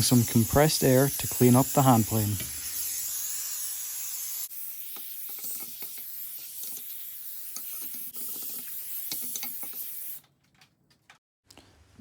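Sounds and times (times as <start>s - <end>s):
compressed air hissing: 0.0s - 10.2s.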